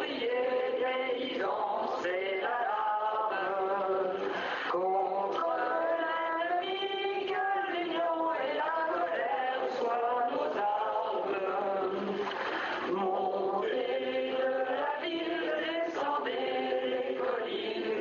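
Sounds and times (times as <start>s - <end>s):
voices singing a chant: 0.0s - 18.0s.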